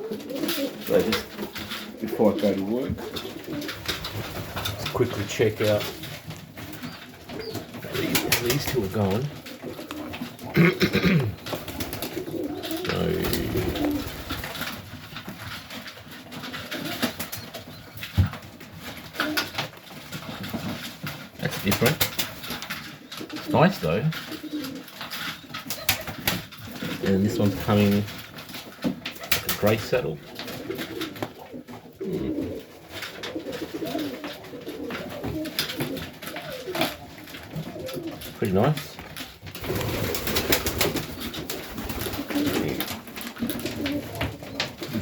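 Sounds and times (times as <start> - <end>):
pigeons cooing: 0.0 - 45.0
pigeons shuffling: 0.0 - 45.0.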